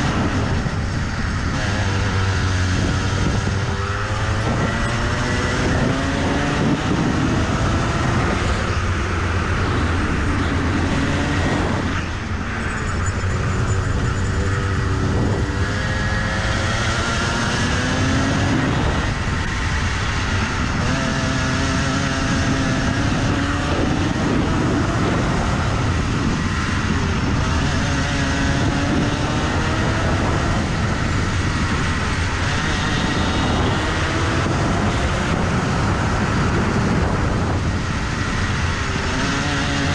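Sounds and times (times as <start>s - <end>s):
kart engine revving: 0.0s - 39.9s
wind noise on microphone: 0.0s - 39.9s.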